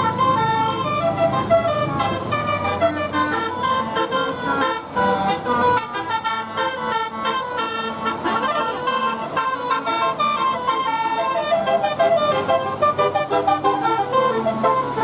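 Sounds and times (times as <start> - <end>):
bus horn playing a melody: 0.0 - 15.0.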